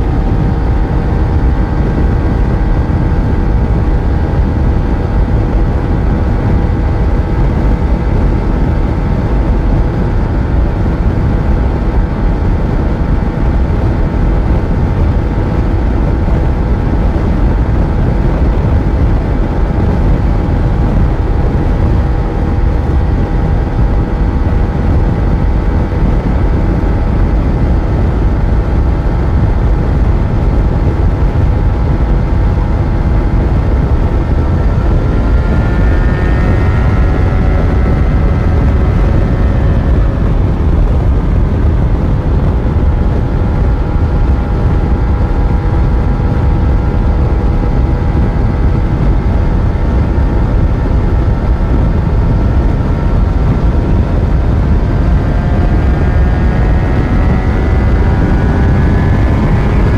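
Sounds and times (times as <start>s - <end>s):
heavy low rumble: 0.0s - 59.9s
motorcycle engine cruising: 0.0s - 59.9s.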